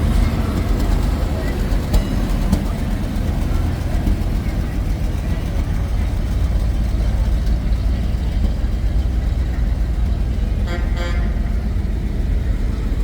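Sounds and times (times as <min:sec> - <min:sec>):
fire truck engine rumbling: 0:00.0 - 0:13.0.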